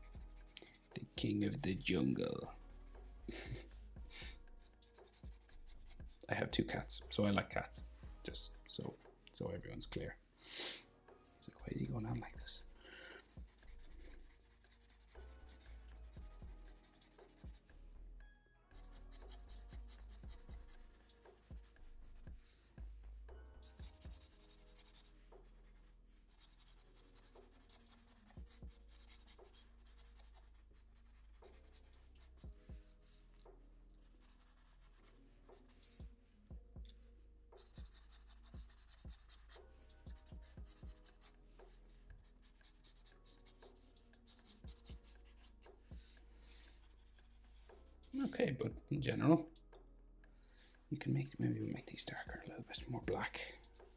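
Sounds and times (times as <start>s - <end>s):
marker pen scratching on paper: 0.0s - 18.0s, 18.7s - 48.4s, 50.6s - 53.9s.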